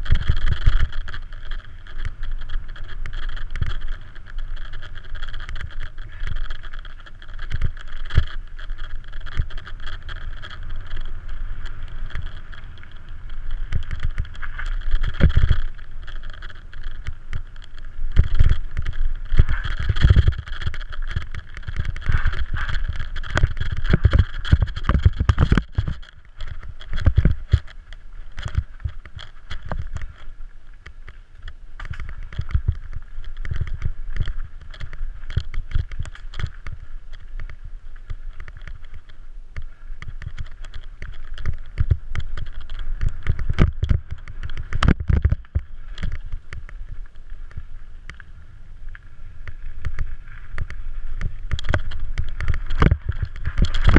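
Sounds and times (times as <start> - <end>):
bike rattling and knocking: 0.0 - 53.9
tyres on dirt: 0.0 - 53.9
wind rumbling on microphone: 0.0 - 53.9.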